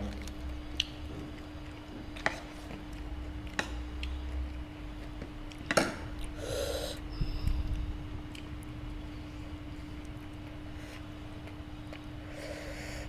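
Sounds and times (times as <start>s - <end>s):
quiet chewing: 0.0s - 7.0s, 8.3s - 13.0s
steady low hum: 0.0s - 13.0s.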